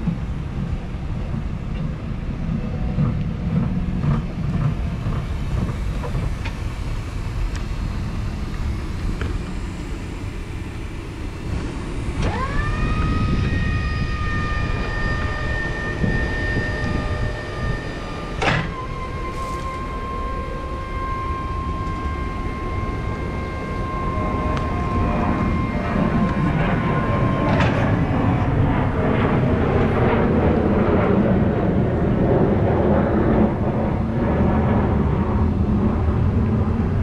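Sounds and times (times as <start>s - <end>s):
vehicle low rumbling: 0.0s - 37.0s
electric motor whine: 4.3s - 37.0s.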